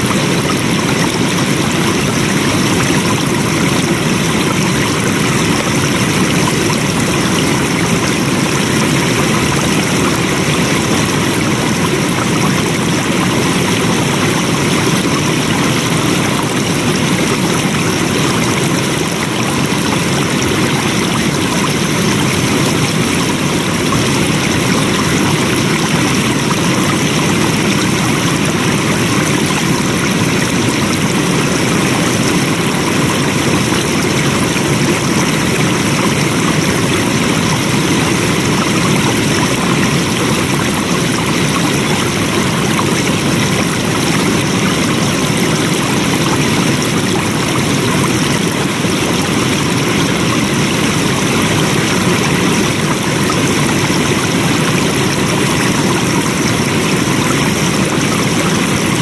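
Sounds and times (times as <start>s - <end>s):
water flowing steadily: 0.0s - 59.0s.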